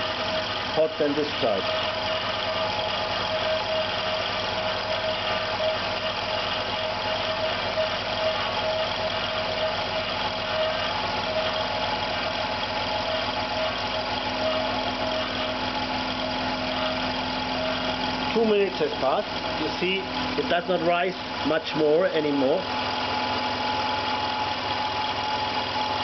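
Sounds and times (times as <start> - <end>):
electric compressor humming: 0.0 - 26.0.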